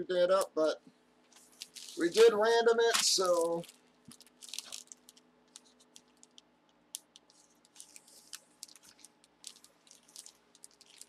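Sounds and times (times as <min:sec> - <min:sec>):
plastic bag crinkling: 0:01.3 - 0:11.0.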